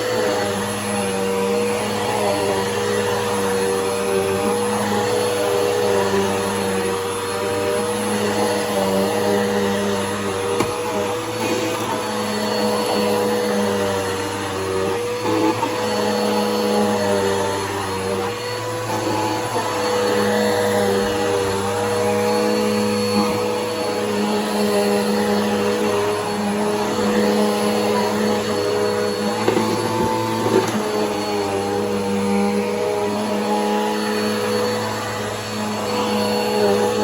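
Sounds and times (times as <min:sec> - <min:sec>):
upright vacuum cleaner running: 0:00.0 - 0:37.0.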